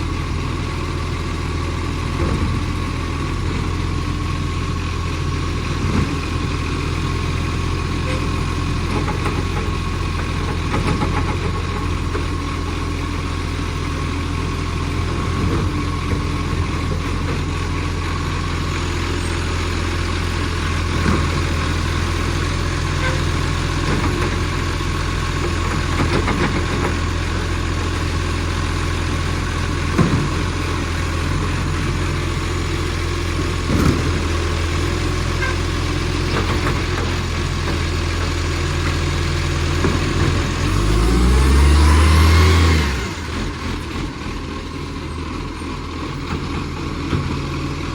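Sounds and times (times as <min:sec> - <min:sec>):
diesel truck engine running: 0:00.0 - 0:47.9.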